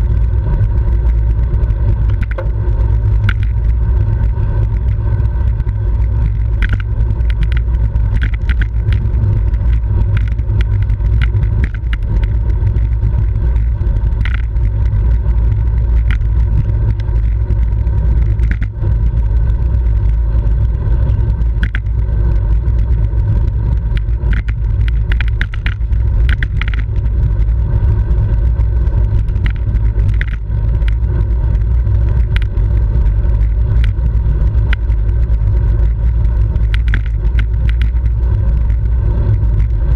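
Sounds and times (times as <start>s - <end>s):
bike clicks and knocks: 0.0s - 39.9s
road rumble: 0.0s - 39.9s
wind rush: 0.0s - 39.9s.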